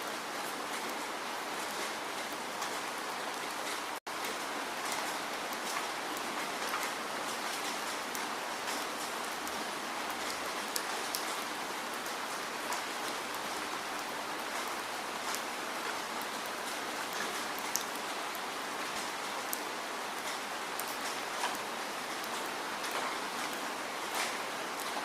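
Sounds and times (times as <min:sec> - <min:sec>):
raindrops ticking on a surface: 0:00.2 - 0:25.0.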